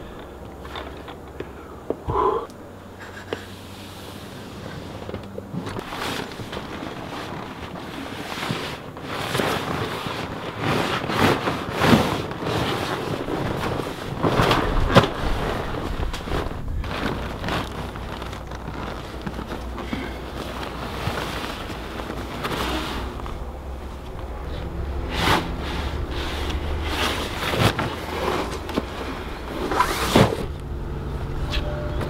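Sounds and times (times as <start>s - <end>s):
nylon bags rustling and scraping: 2.9s - 32.0s.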